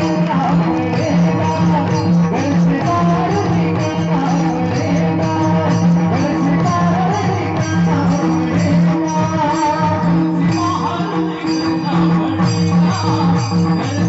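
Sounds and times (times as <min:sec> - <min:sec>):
barrel drum: 0:00.0 - 0:14.0
devotional singing: 0:00.0 - 0:14.0.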